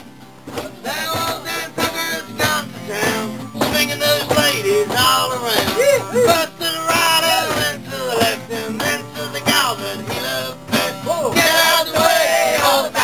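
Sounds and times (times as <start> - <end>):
acoustic guitar strumming: 0.0 - 13.0
man singing: 0.6 - 13.0.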